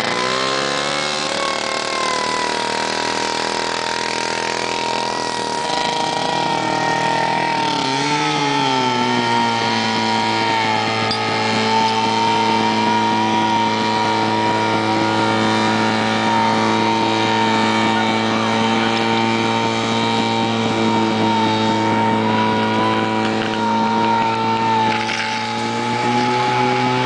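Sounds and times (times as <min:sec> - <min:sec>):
pump engine running: 0:00.0 - 0:27.0.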